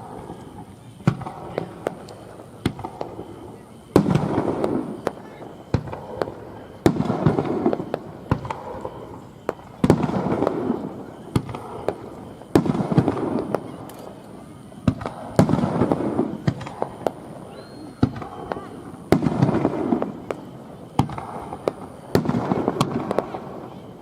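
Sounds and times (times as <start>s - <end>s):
fireworks bursting with bangs: 0.0s - 24.0s
fireworks crackling: 0.0s - 24.0s.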